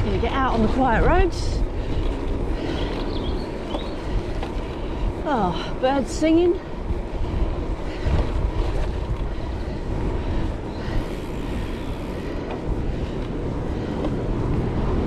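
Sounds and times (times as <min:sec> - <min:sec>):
bike tyres humming: 0:00.0 - 0:15.0
wind rumble on microphone: 0:00.0 - 0:15.0.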